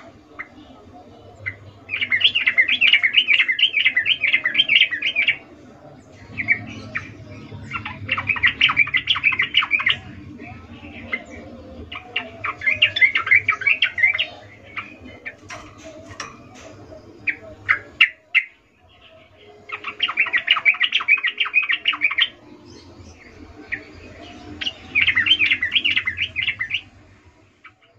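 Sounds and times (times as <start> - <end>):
bird chattering song: 0.0 - 27.9.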